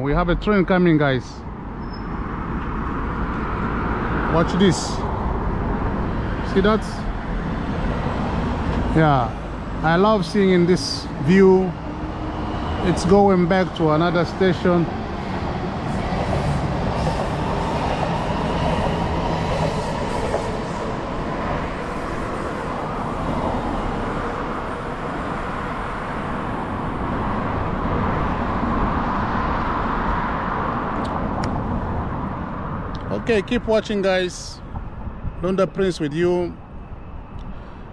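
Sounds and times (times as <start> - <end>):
train rolling on tracks: 0.0 - 37.9.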